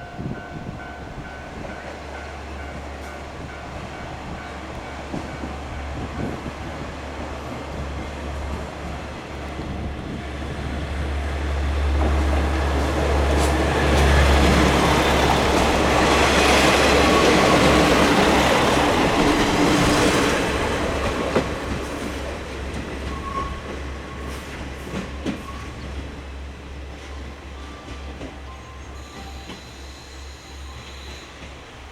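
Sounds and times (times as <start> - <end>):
diesel railcar passing: 0.0 - 31.9.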